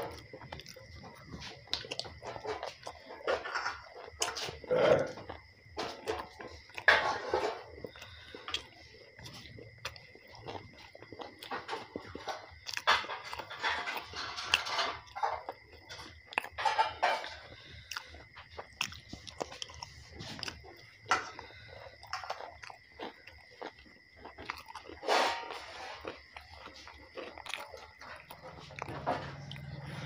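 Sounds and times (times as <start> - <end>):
chewing food: 0.0 - 30.0.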